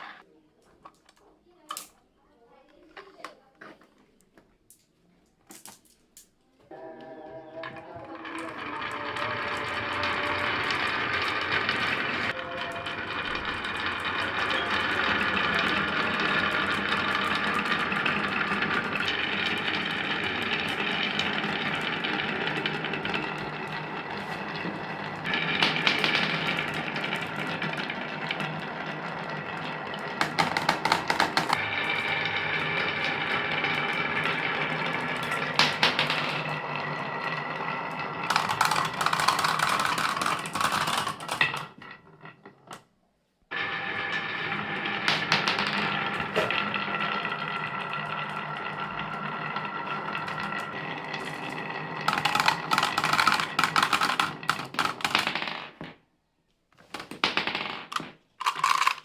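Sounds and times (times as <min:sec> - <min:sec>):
marbles clicking: 0:07.5 - 0:42.6, 0:43.5 - 0:55.8, 0:57.0 - 0:59.0
marbles rolling down a track: 0:07.5 - 0:42.8, 0:43.5 - 0:56.0, 0:56.9 - 0:59.0.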